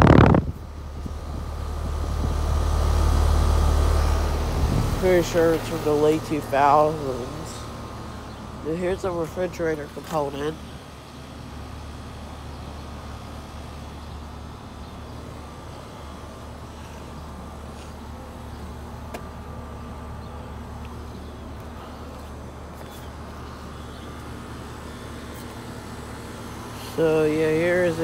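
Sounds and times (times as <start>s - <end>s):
compressor hum: 0.0s - 28.0s
fan noise: 0.0s - 28.0s.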